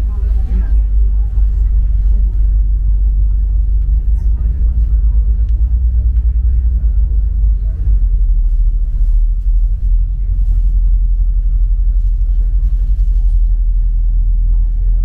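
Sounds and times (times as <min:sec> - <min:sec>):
faint voices: 0:00.0 - 0:15.0
ferry deep rumble: 0:00.0 - 0:15.0.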